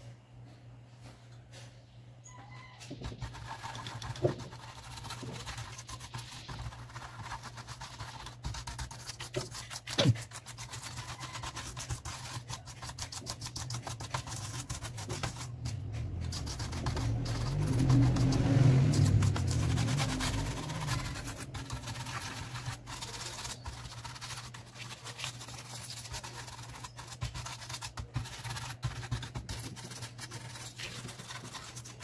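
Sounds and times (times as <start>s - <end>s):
scrubbing on laptop plastic: 2.9s - 32.0s.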